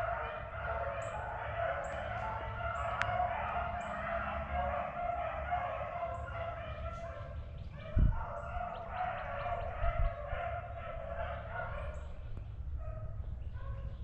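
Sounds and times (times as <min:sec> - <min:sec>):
dogs baying: 0:00.0 - 0:14.0.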